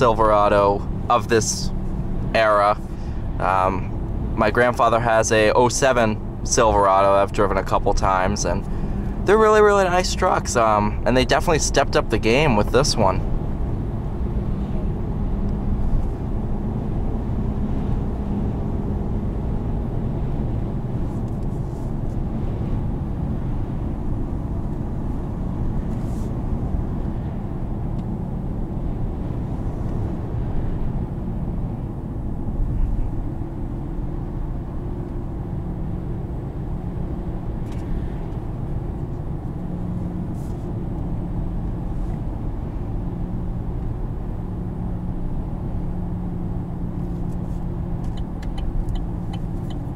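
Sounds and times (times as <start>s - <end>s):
engine and tyre rumble: 0.0s - 49.9s.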